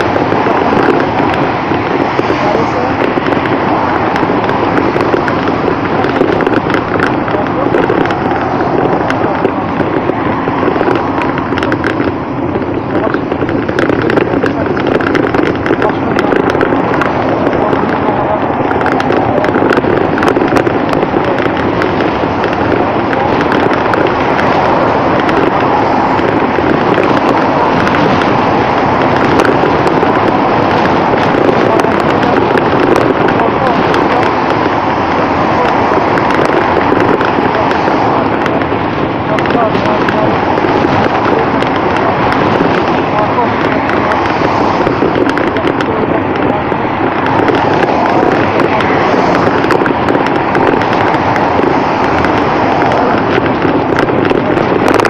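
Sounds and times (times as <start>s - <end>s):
small crackles: 0.0s - 55.0s
steady wind rush while riding: 0.0s - 55.0s.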